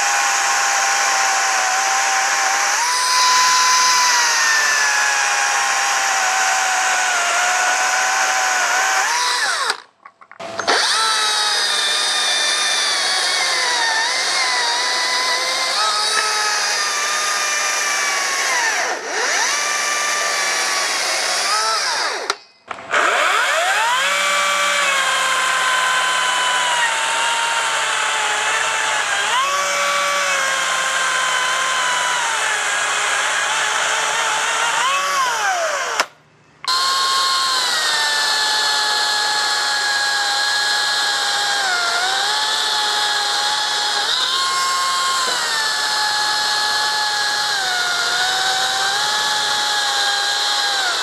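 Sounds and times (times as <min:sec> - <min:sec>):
electric chainsaw cutting log: 0:00.0 - 0:51.0.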